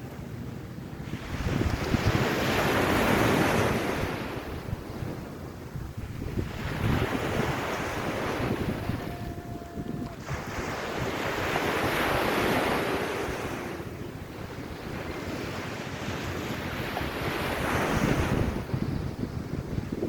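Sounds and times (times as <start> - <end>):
sea waves washing onto beach: 0.0 - 20.0
wind buffeting microphone: 0.3 - 20.0.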